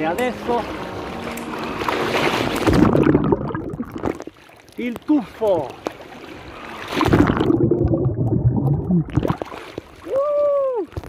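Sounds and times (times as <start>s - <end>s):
muffled churning water: 0.0s - 11.0s.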